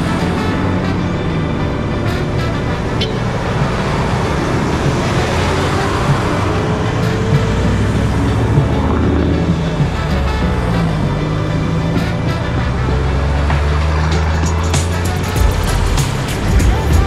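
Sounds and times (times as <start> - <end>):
car engine: 0.0 - 17.0
road noise: 0.0 - 17.0.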